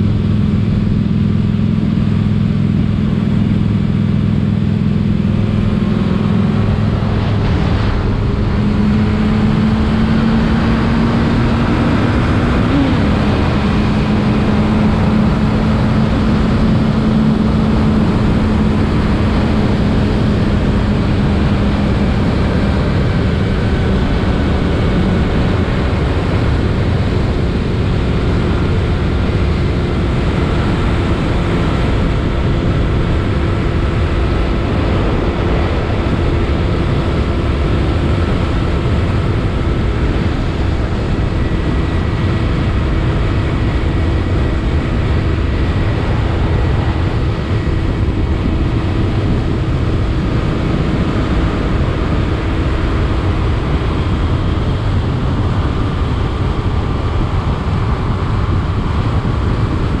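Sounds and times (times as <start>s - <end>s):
motorcycle engine drone: 0.0s - 60.0s
wind rush on microphone: 0.0s - 60.0s.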